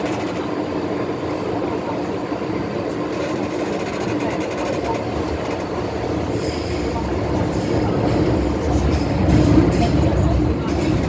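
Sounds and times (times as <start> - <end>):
train hum: 0.0 - 11.0
train wheels rumbling: 0.0 - 11.0.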